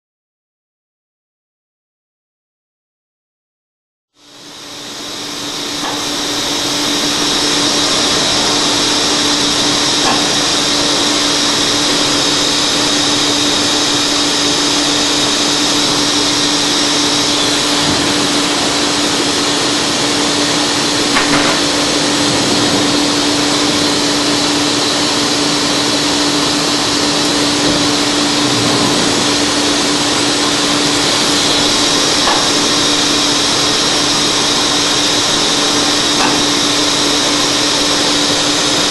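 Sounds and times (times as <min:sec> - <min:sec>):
grinding machine hissing: 0:04.2 - 0:38.9.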